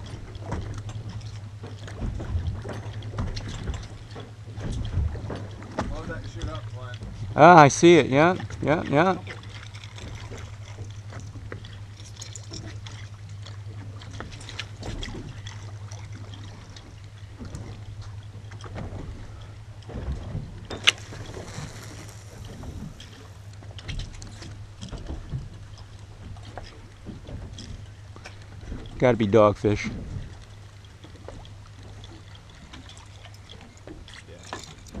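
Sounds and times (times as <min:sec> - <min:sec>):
steady low hum: 0:00.0 - 0:35.0
water lapping against boat hull: 0:00.0 - 0:35.0.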